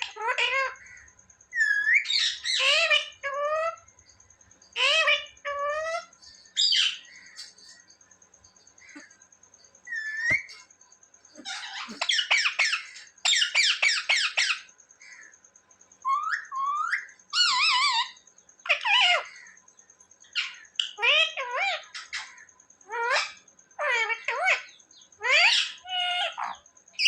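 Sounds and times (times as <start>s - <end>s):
parrot calling: 0.0s - 3.9s, 4.7s - 7.8s, 9.9s - 10.7s, 11.3s - 15.3s, 16.0s - 19.5s, 20.3s - 27.0s.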